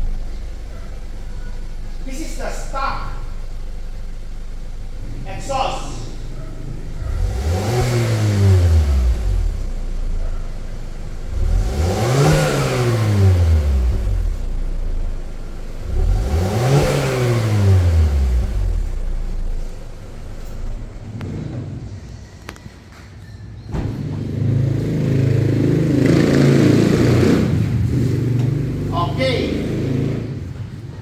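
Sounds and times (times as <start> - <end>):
car engine idling and revving: 0.0 - 31.0.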